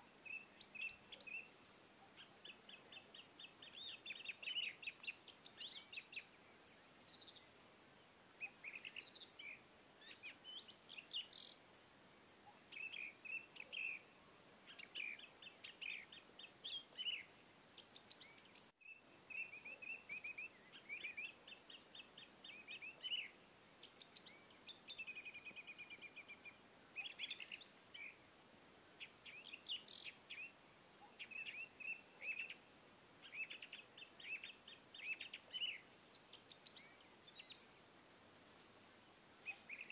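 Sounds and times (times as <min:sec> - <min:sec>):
birds chirping and trilling: 0:00.2 - 0:07.6, 0:08.4 - 0:14.1, 0:14.7 - 0:28.2, 0:29.0 - 0:32.6, 0:33.2 - 0:38.0, 0:39.4 - 0:39.9.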